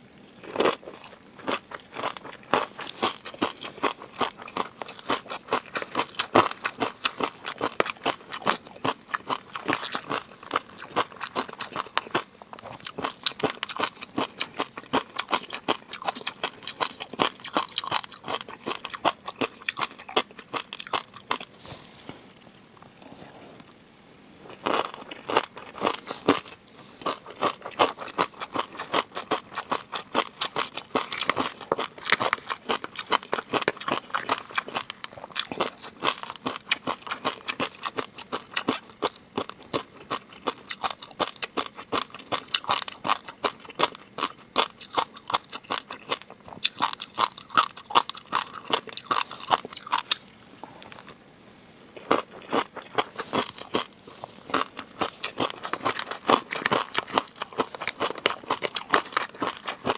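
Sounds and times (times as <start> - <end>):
wet crunching and chewing: 0.4 - 22.1, 24.5 - 51.2, 52.0 - 59.9.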